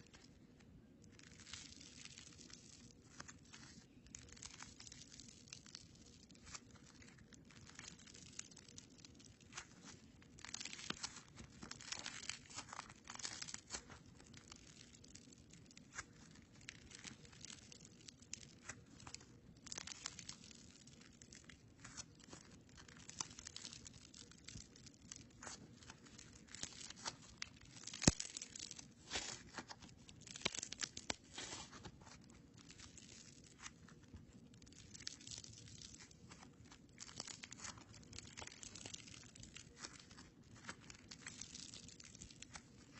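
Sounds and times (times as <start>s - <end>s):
crunchy slime crackling: 0.0s - 42.9s.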